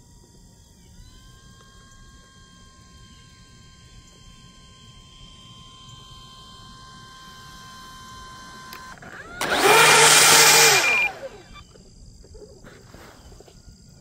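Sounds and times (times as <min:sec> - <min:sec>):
model plane motor and propeller whine: 0:00.0 - 0:14.0.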